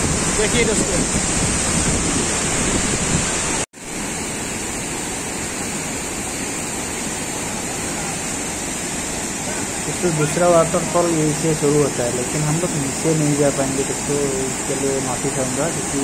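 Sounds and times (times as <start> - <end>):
large waterfall roaring: 0.0 - 16.0
water rushing over rock slabs: 0.0 - 16.0.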